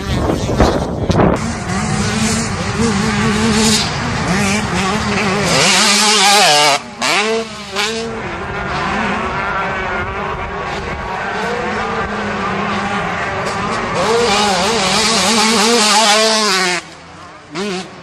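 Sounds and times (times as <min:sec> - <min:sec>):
motorbike engines revving: 0:00.0 - 0:18.0.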